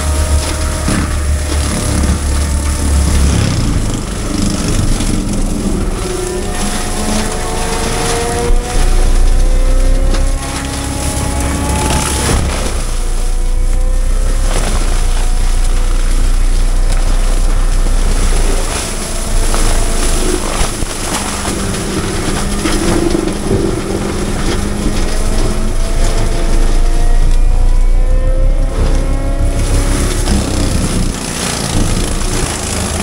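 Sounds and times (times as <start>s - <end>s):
diesel engine running under load: 0.0s - 33.0s.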